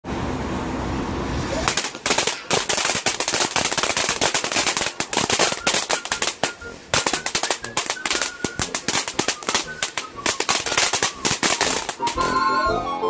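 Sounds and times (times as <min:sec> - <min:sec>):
firework spraying and crackling: 0:01.1 - 0:12.4.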